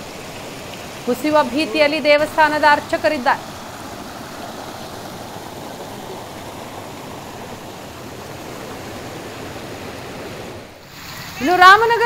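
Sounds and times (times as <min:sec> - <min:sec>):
floodwater rushing over bank: 0:00.0 - 0:12.0.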